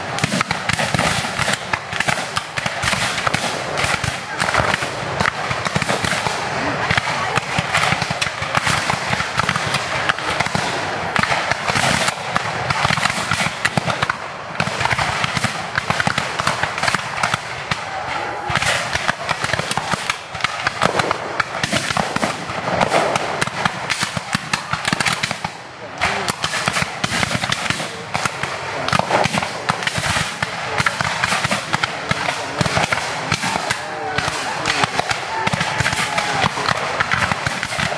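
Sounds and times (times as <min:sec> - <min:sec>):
musket fire crackling: 0:00.0 - 0:37.9.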